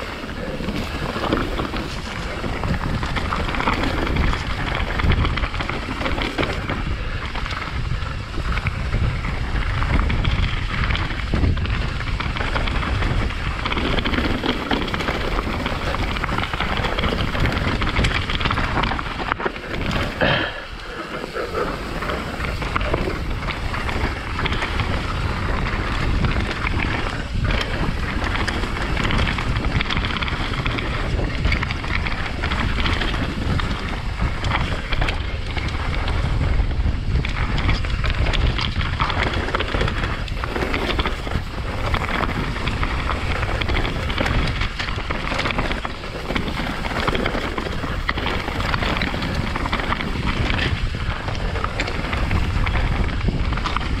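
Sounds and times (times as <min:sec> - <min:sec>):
bike knocking and rattling: 0:00.0 - 0:54.0
tyres rumbling on dirt: 0:00.0 - 0:54.0
wind buffeting microphone: 0:00.0 - 0:54.0.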